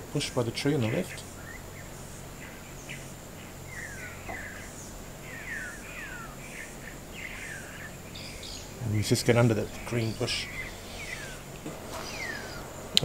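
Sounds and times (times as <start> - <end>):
birds whistling: 0.0 - 13.0
high insect drone: 0.0 - 13.0.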